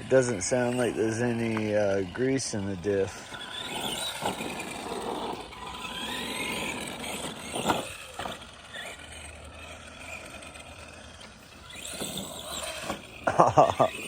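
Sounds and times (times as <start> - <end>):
toy truck motor and gear whine: 0.0 - 14.0.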